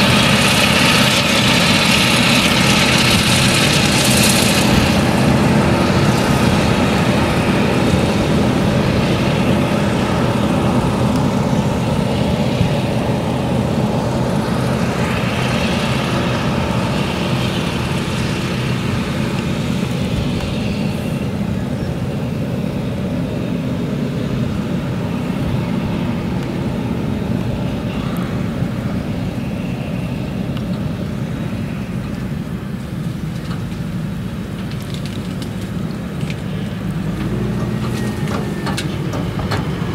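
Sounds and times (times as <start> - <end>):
chopped crop hissing: 0.0 - 39.9
heavy engine drone: 0.0 - 39.9.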